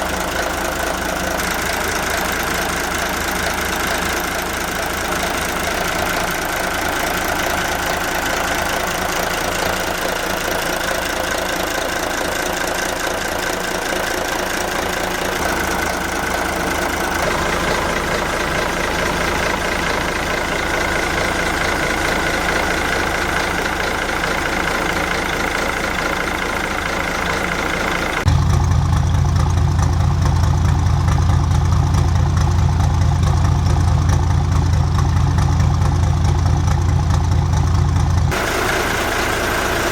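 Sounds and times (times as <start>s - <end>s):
boat diesel engine running: 0.0s - 39.9s.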